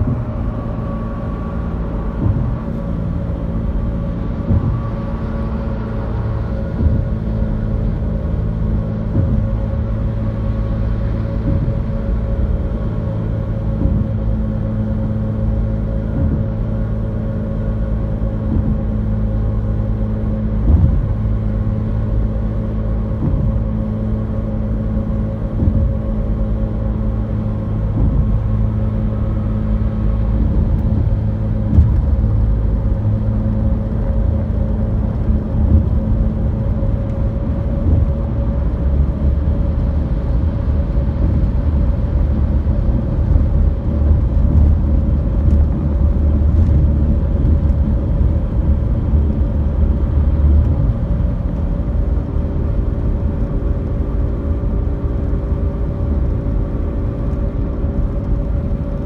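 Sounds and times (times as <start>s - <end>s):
car tyres and engine rumbling: 0.0s - 59.0s.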